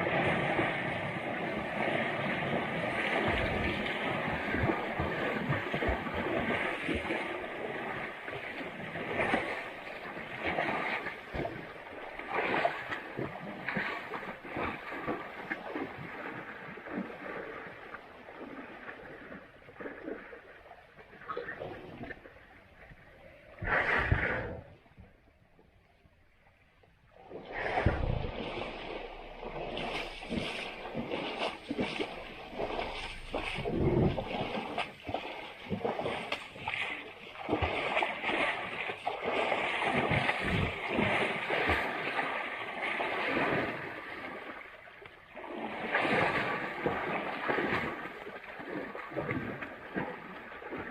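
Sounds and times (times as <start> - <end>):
muddy water sloshing and splashing: 0.0 - 24.8, 27.1 - 50.9.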